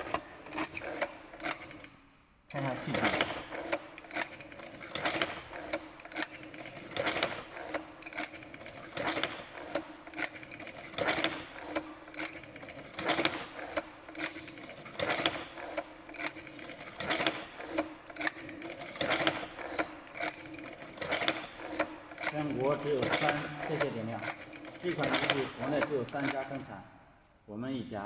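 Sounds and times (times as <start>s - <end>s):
machine clattering: 0.0s - 26.8s.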